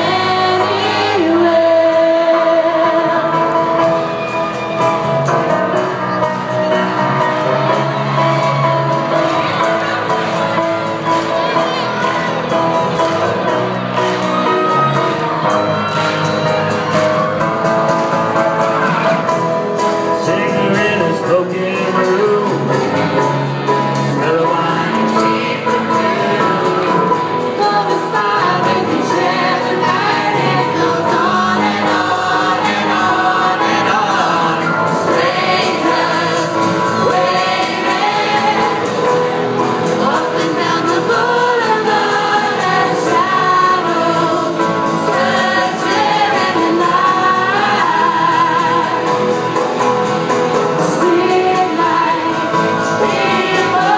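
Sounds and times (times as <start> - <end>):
strummed acoustic guitars: 0.0 - 53.9
voices singing together: 0.0 - 53.9.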